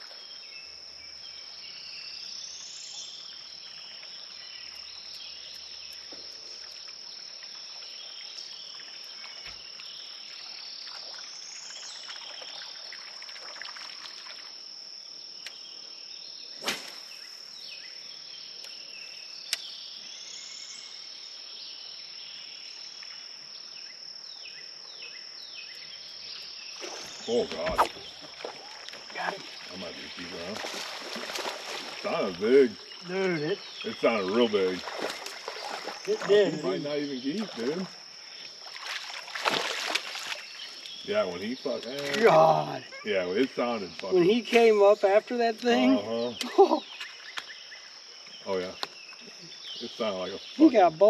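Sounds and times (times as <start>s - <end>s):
high-pitched insect chorus: 0.0s - 51.0s
rising insect call: 0.0s - 51.0s.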